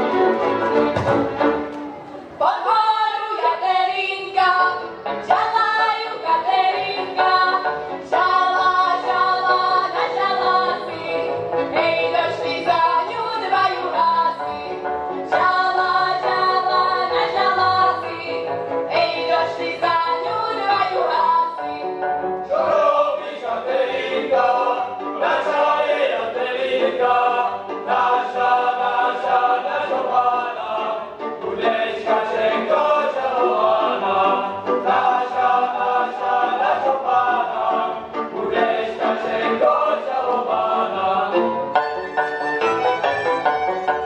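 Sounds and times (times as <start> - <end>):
folk band with strings and cimbalom: 0.0 - 44.0
young people singing: 2.3 - 41.8.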